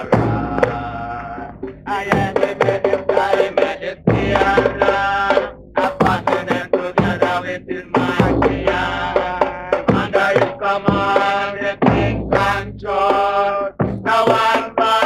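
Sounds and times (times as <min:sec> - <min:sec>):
drums: 0:00.0 - 0:15.0
voices chanting: 0:00.0 - 0:15.0.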